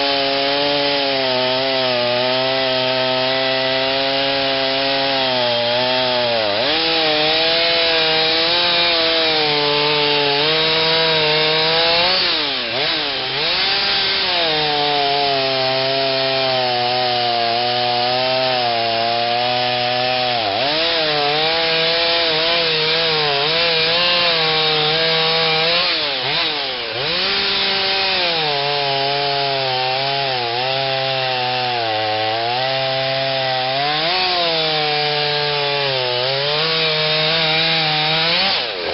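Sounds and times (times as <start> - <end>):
chainsaw cutting through wood: 0.0 - 38.9.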